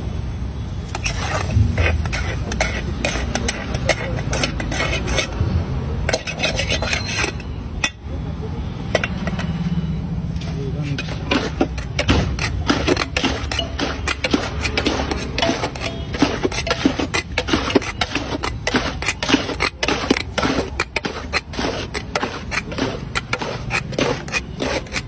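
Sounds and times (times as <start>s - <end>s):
utensil scraping and knocking pan: 0.9s - 8.0s, 8.8s - 9.6s, 10.4s - 25.0s.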